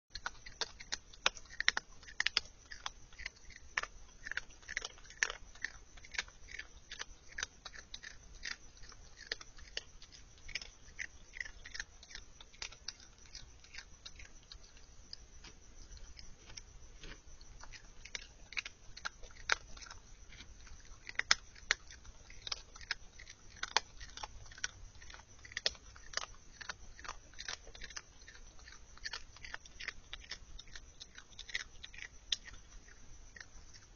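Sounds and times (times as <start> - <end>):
animal chewing dry kibble: 0.1 - 33.9.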